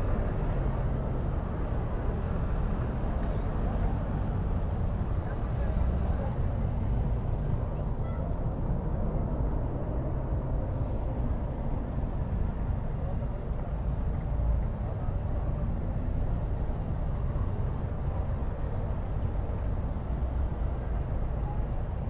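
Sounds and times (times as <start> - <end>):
road and traffic rumble: 0.0 - 22.0.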